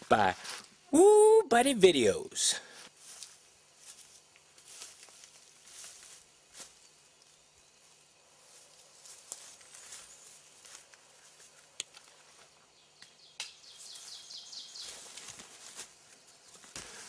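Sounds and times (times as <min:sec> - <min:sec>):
faint forest ambience: 0:00.0 - 0:17.0.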